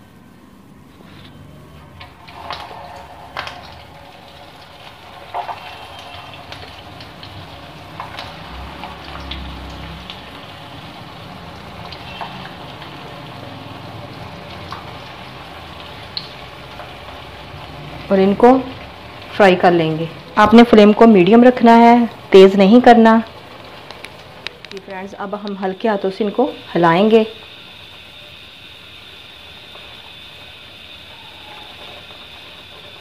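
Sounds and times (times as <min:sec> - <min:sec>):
oil crackles and pops: 0:00.9 - 0:33.0
potatoes sizzling in hot oil: 0:01.3 - 0:33.0.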